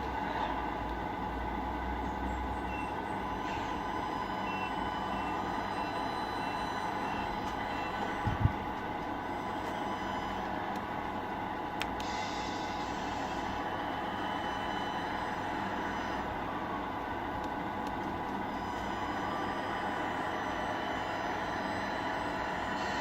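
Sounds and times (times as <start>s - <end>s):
simulated truck diesel engine: 0.0s - 23.0s.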